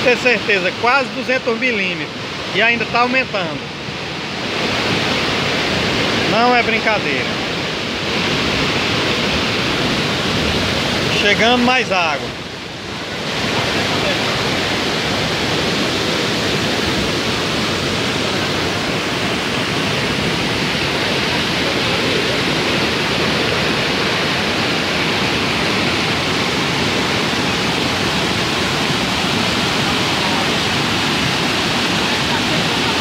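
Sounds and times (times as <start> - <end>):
flooded river rushing: 0.0 - 33.0.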